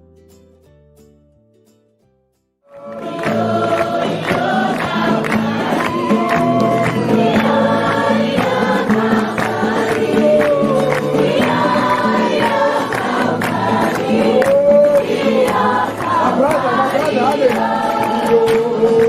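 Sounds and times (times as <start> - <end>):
group of voices singing: 2.7 - 19.0.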